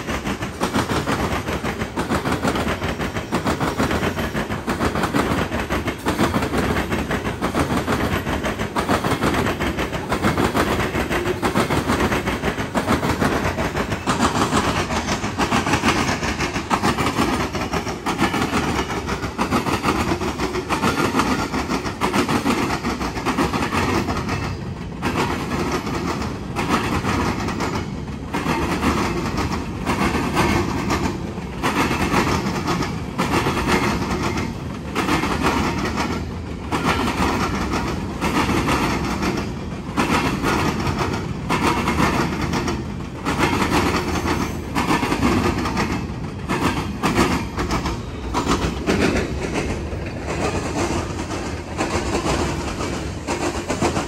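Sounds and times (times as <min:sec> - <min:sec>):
freight train wheels clattering on rail: 0:00.0 - 0:54.0.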